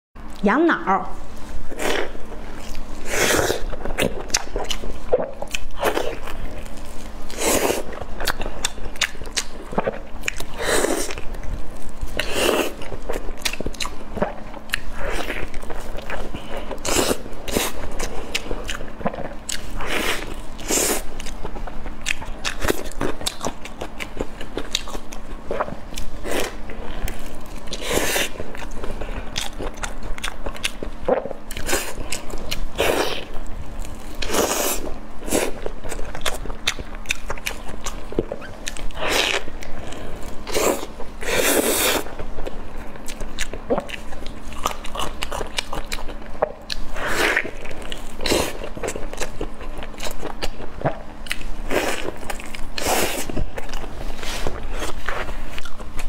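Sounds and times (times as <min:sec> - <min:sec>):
wet biting and chewing: 0:01.7 - 0:56.0.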